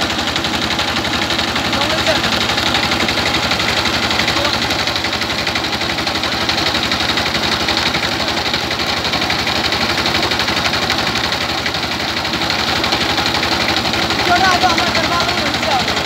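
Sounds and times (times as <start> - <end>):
rice huller milling: 0.0 - 16.0
stationary engine running: 0.0 - 16.0.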